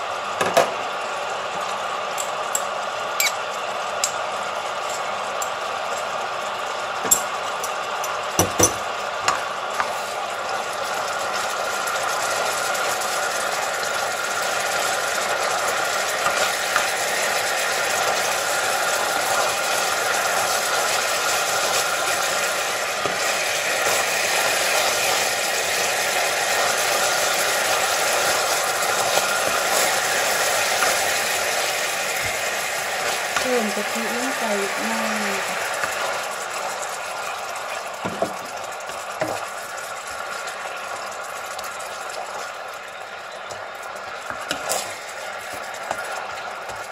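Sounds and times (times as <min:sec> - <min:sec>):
curry paste sizzling and bubbling: 0:00.0 - 0:46.9
spoon stirring and scraping pan: 0:07.0 - 0:10.2, 0:10.8 - 0:34.8, 0:35.5 - 0:46.9.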